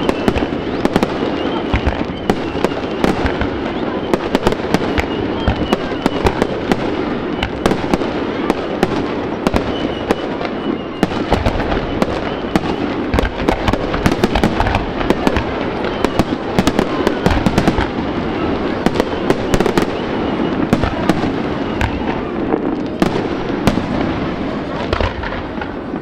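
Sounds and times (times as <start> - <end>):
fireworks cracks and bangs: 0.0 - 26.0
heavy firework booms: 0.0 - 26.0.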